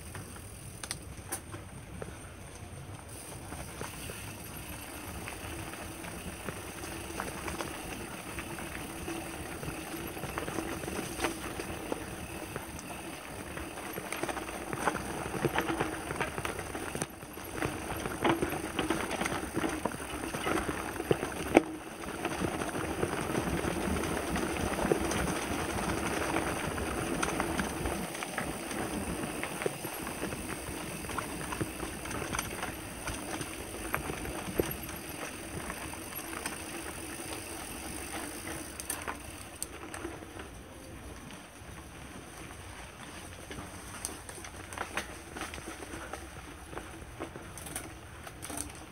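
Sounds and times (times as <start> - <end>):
bike tyres rumbling on dirt: 0.0 - 48.9
bike rattling and knocking: 3.1 - 48.9.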